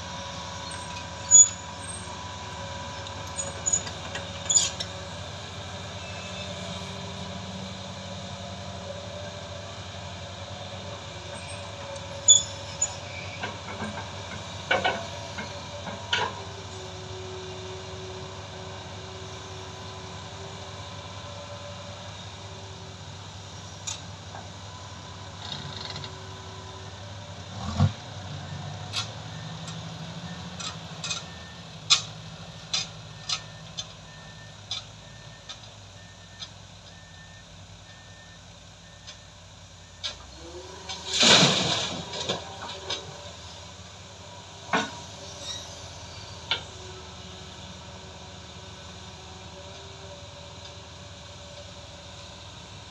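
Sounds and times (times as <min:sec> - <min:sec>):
dump truck diesel engine: 0:00.0 - 0:52.9
excavator diesel engine running: 0:00.0 - 0:52.9.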